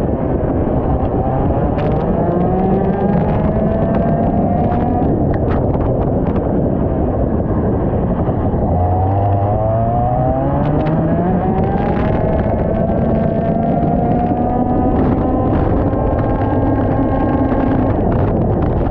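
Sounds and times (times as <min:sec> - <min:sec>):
kart engine at racing speed: 0:00.0 - 0:18.9.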